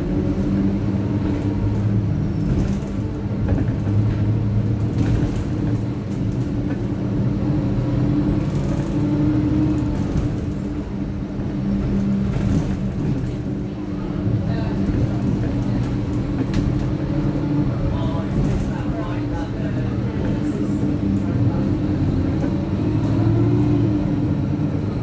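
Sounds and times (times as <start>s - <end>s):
bus engine drone: 0.0s - 25.0s
road noise: 0.0s - 25.0s.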